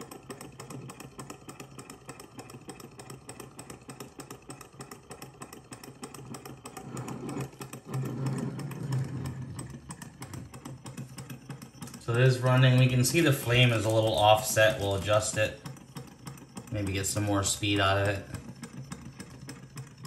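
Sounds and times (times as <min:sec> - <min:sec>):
model engine ticking clatter: 0:00.0 - 0:20.0.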